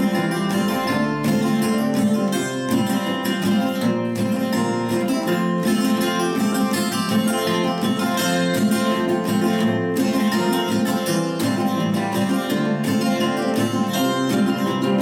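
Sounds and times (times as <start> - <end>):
nylon-string classical guitar: 0.0 - 15.0
steel-string acoustic guitar: 0.0 - 15.0.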